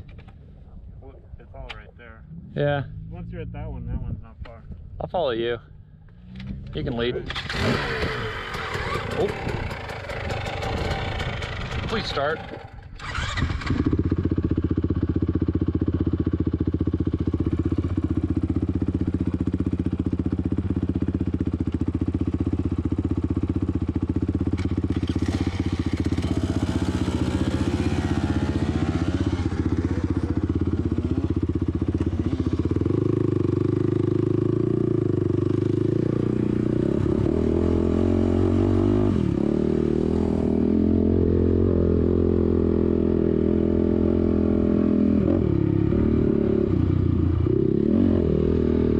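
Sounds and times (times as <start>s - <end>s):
atv engine running: 5.7s - 48.9s.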